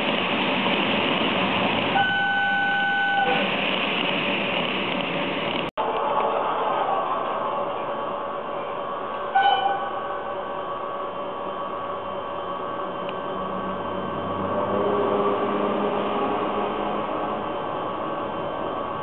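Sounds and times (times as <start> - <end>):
model trains whirring on track: 0.0 - 19.0.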